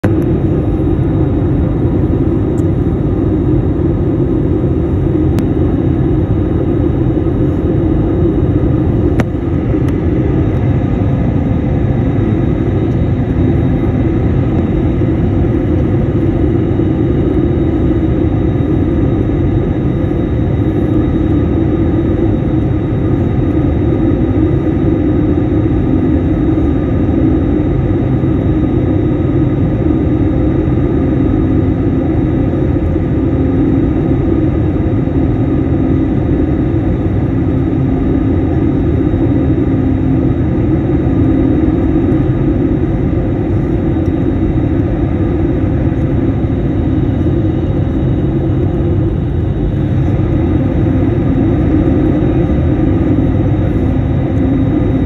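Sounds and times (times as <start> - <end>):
airliner cabin engine and air noise: 0.0 - 55.0.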